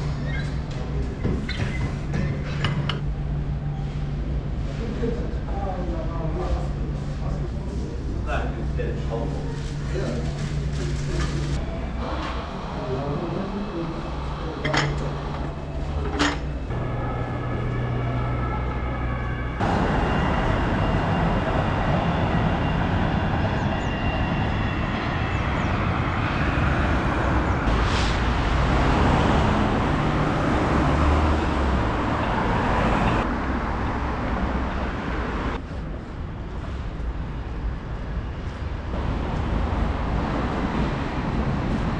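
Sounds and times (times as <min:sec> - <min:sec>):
train hum: 0:02.4 - 0:41.9
train rushing noise: 0:07.2 - 0:41.9.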